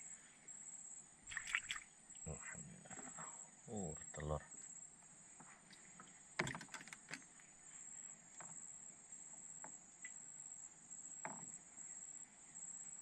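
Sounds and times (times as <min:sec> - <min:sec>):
faint high whine: 0:00.0 - 0:06.4, 0:07.2 - 0:13.0.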